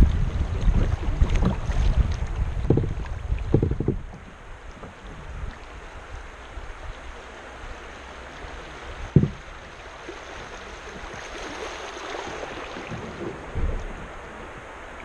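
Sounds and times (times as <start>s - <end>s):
paddle knocking kayak: 0.0s - 15.0s
paddle splashes: 0.0s - 15.0s
water rushing along kayak hull: 0.0s - 15.0s.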